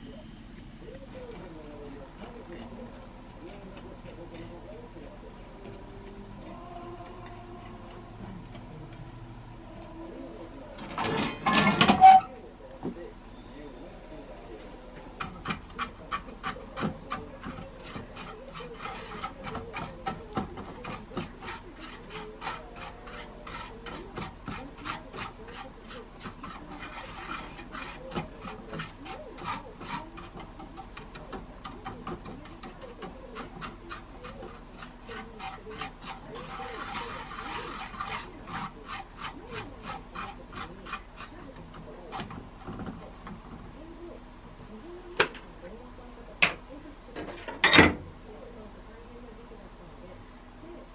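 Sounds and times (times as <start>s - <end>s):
utensil scraping food in pan: 0.0s - 12.4s, 14.8s - 44.0s.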